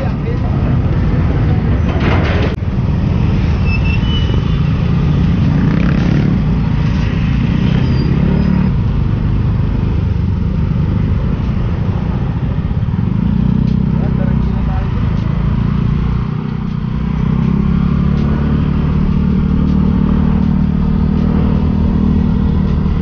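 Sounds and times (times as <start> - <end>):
scooter engine and road noise: 0.0 - 23.0.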